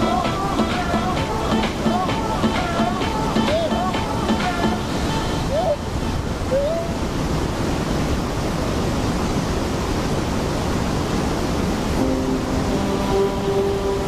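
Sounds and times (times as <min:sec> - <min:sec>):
river rushing over rocks: 0:00.0 - 0:14.0
steady multi-tone hum: 0:00.0 - 0:14.0.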